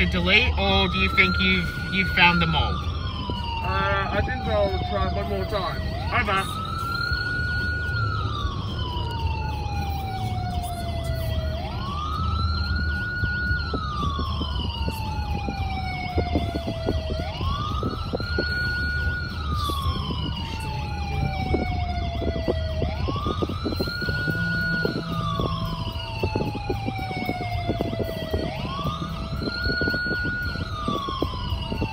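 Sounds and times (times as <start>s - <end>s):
car road rumble: 0.0s - 31.9s
wail siren: 0.0s - 31.9s.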